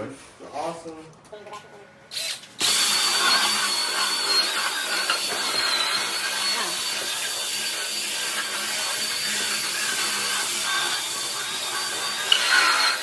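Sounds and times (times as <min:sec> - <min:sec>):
cordless drill motor whine: 0:02.1 - 0:13.0.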